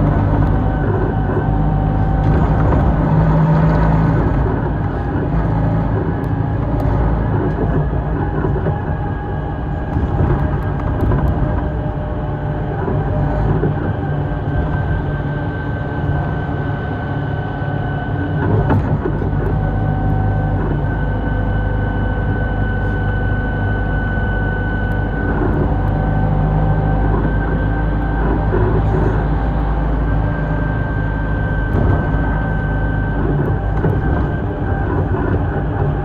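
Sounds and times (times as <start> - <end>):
bus engine and road rumble: 0.0 - 36.0
steady high whine: 0.0 - 36.0.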